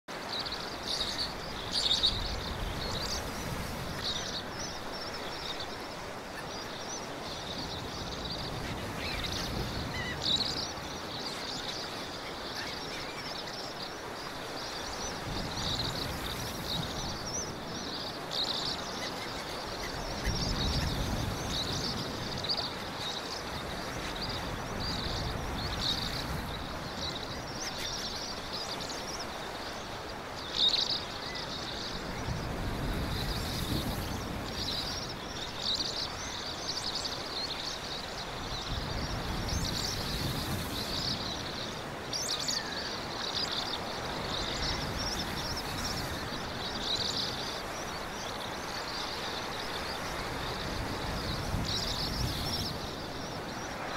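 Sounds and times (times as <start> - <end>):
sea and wind wash: 0.1 - 53.9.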